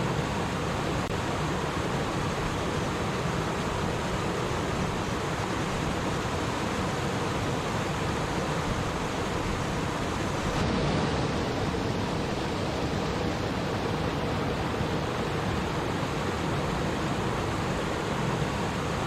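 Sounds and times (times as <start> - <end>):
stream water rushing and babbling: 0.0 - 19.0.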